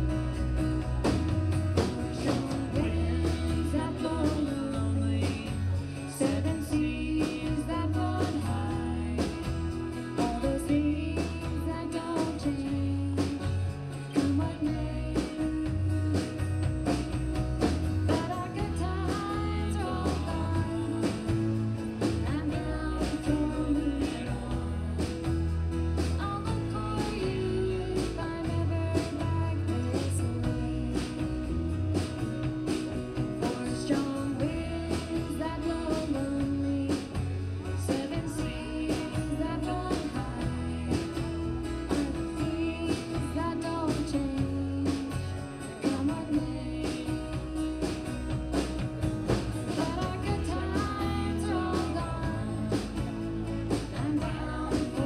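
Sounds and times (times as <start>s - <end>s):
live country band playing: 0.0s - 55.0s.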